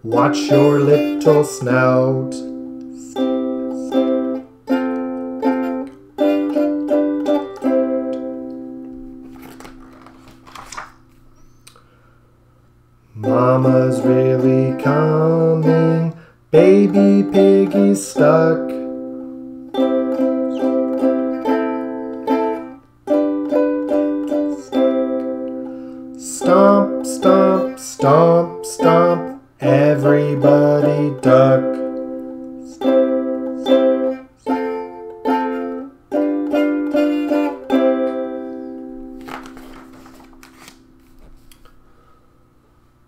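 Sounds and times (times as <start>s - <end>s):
strummed string instrument chords: 0.0s - 9.3s, 13.2s - 39.4s.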